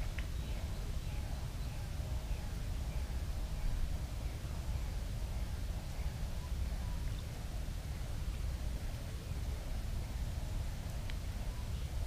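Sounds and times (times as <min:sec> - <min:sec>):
faint even hiss: 0:00.0 - 0:12.0
steady low rumble: 0:00.0 - 0:12.0.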